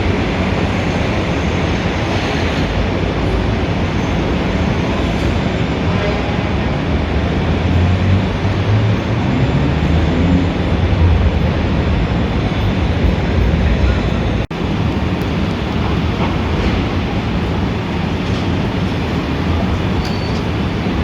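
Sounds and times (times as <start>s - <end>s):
city street traffic rumble: 0.0s - 21.0s.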